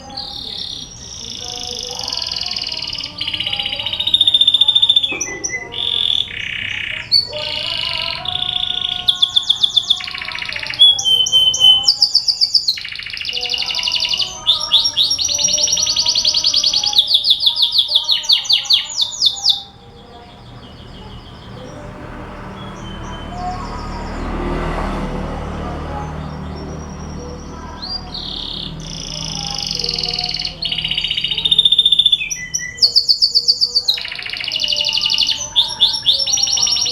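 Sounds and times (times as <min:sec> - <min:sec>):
canary singing: 0:00.0 - 0:36.9.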